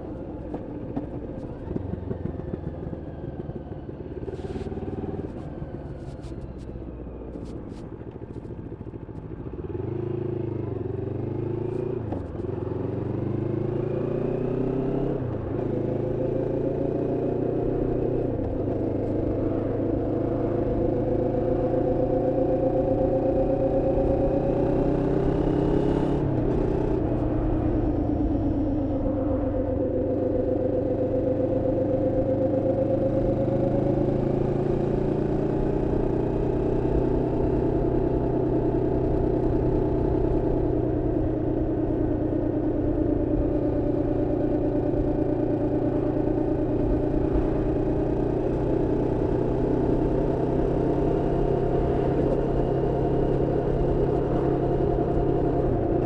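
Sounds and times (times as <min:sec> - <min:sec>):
motorcycle engine running: 0:00.0 - 0:06.6, 0:07.2 - 0:56.0.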